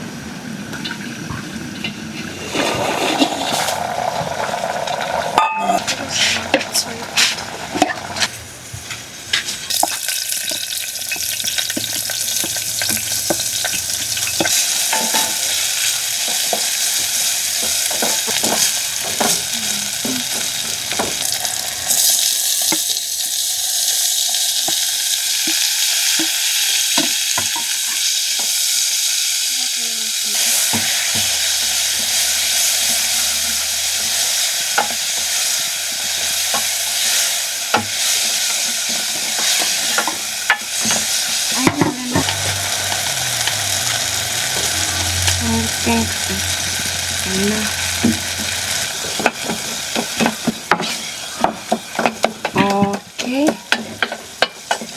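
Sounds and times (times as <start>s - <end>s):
food sizzling in oil: 0.4s - 54.9s.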